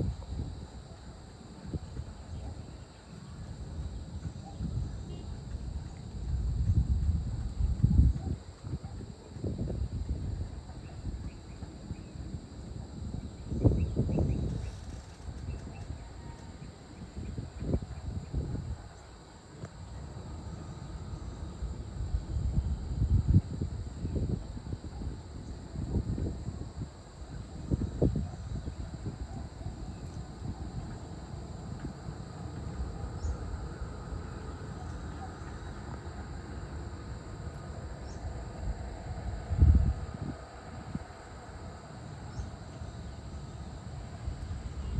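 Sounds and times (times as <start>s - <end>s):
high-pitched insect drone: 0.0s - 44.9s
wind buffeting microphone: 0.0s - 44.9s.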